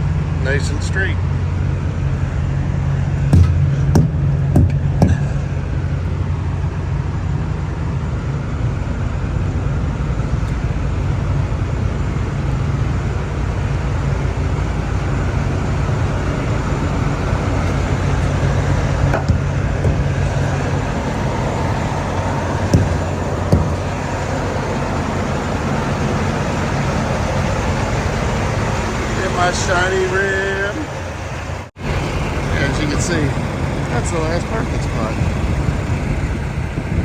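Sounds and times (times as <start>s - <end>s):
diesel truck engines idling: 0.0s - 37.0s.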